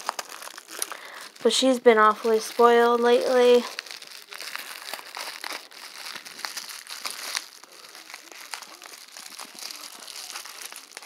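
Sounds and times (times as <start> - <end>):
bubble wrap and paper crinkling: 0.0 - 11.0.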